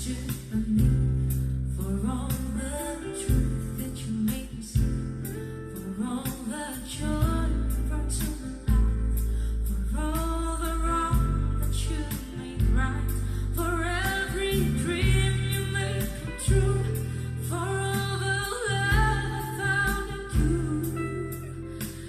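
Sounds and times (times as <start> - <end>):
song with singing over heavy bass: 0.0 - 22.0.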